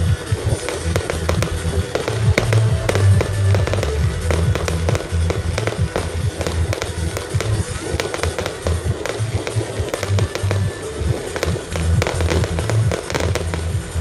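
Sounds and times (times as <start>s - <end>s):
fireworks bangs: 0.0s - 14.0s
loud music with pulsing bass: 0.0s - 14.0s.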